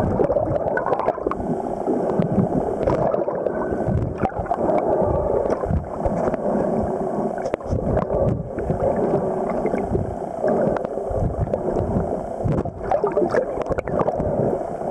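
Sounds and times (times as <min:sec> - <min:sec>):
water sloshing and gurgling: 0:00.0 - 0:14.9.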